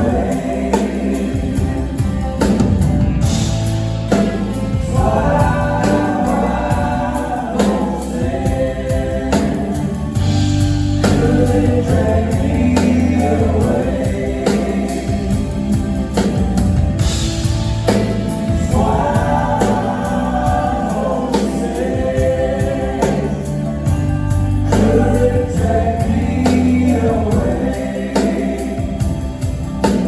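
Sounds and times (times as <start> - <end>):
bass: 0.0 - 30.0
steady drum beat: 0.0 - 30.0
voices singing in harmony: 0.0 - 30.0.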